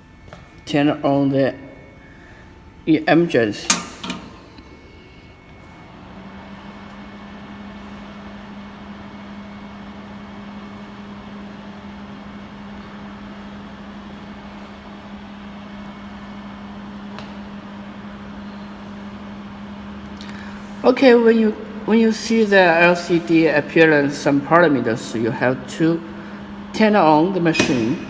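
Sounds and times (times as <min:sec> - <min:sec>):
laser welding machine humming: 0:00.0 - 0:28.0.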